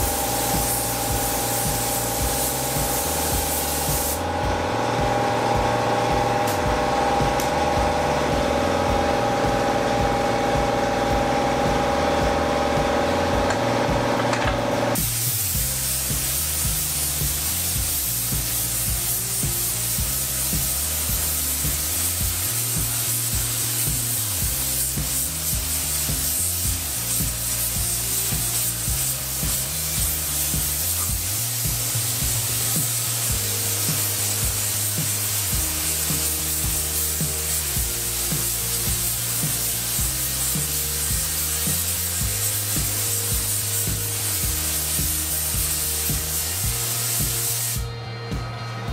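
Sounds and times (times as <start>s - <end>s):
paint spray gun hissing: 0.0s - 12.2s, 14.4s - 47.9s
background music with bass line: 0.0s - 48.9s.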